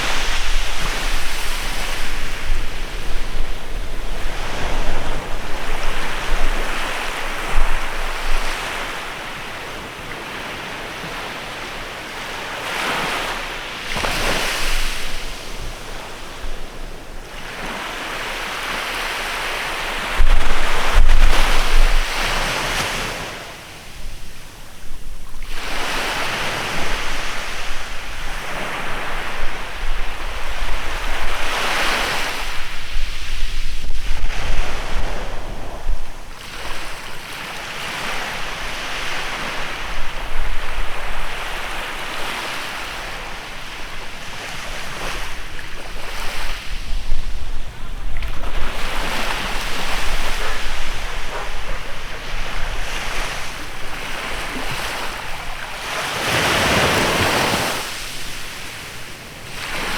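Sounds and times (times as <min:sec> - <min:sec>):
wind buffeting microphone: 0:00.0 - 0:09.9, 0:19.4 - 0:23.2, 0:23.9 - 0:58.6
waves washing onto beach: 0:00.0 - 0:59.9.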